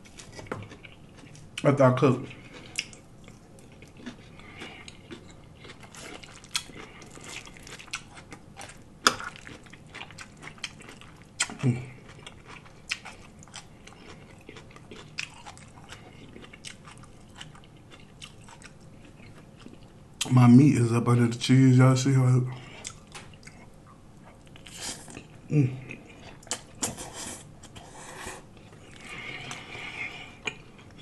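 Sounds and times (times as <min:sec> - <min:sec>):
person chewing with wet smacks: 0:00.0 - 0:20.3, 0:22.6 - 0:31.0.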